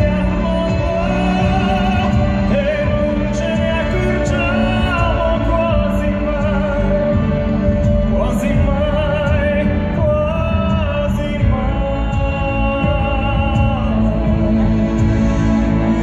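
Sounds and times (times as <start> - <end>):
orchestral ballad music: 0.0 - 16.0.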